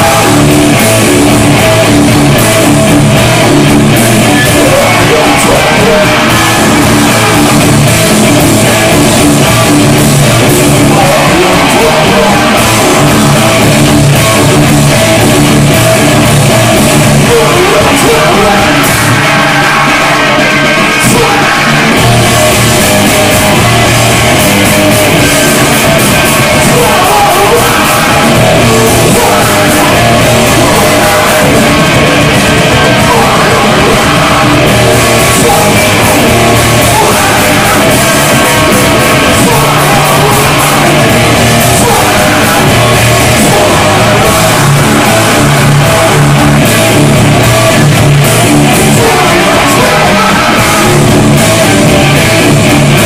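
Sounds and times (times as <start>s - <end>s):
distorted electric guitars: 0.0s - 53.0s
drum kit: 0.0s - 53.0s
singer shouting and singing: 0.0s - 53.0s.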